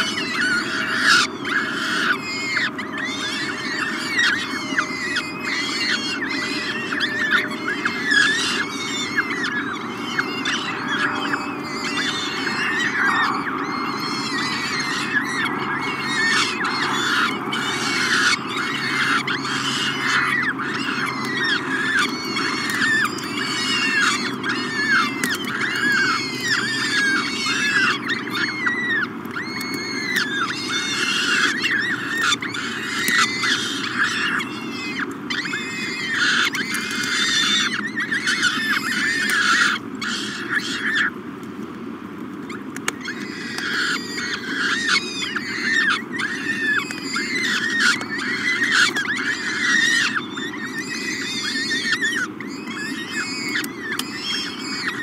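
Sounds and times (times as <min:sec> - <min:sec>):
falcon chicks begging calls: 0:00.0 - 0:55.0.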